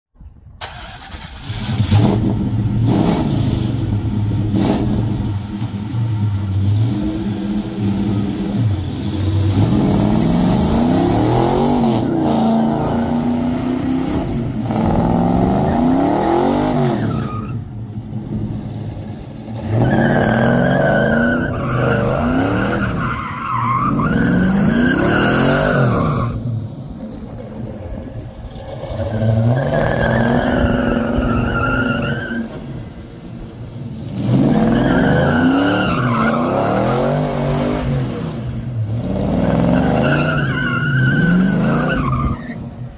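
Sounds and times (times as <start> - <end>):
tires squealing on asphalt: 0.6 - 17.8, 19.5 - 26.6, 28.4 - 32.8, 34.1 - 38.0, 38.9 - 42.9
truck engine revving hard: 0.7 - 18.8, 19.5 - 26.5, 28.6 - 32.5, 33.9 - 42.7.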